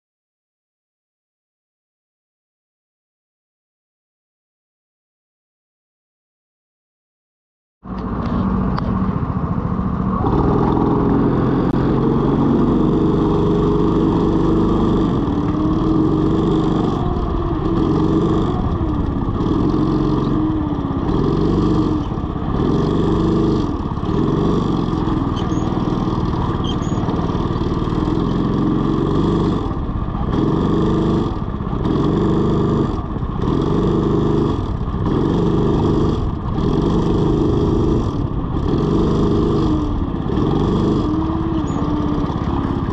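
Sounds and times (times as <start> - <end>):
go-kart engine running: 7.9 - 42.9.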